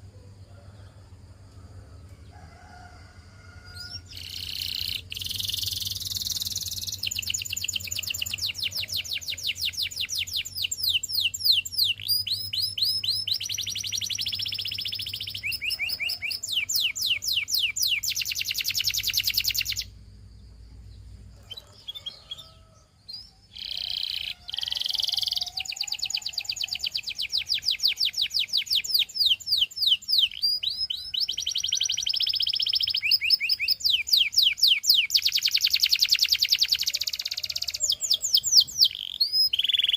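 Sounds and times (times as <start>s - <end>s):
canary singing trills: 3.6s - 39.9s.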